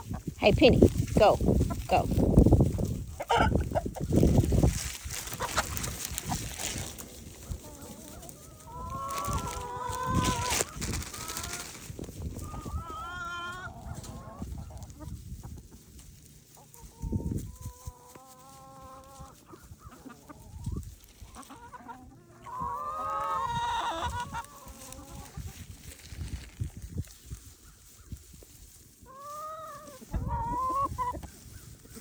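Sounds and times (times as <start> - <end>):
chickens clucking and calling: 0.0 - 32.0.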